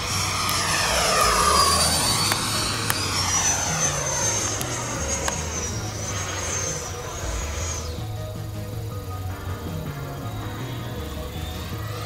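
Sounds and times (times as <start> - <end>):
electric ducted fan whining: 0.0 - 12.0.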